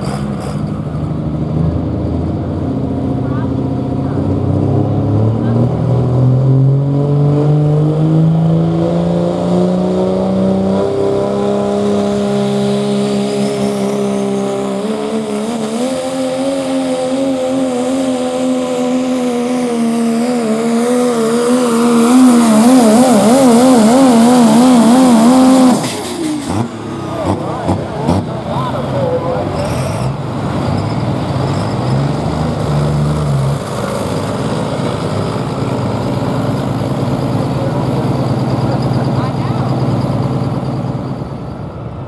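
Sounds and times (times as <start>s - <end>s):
diesel truck engine at full load: 0.0s - 42.0s.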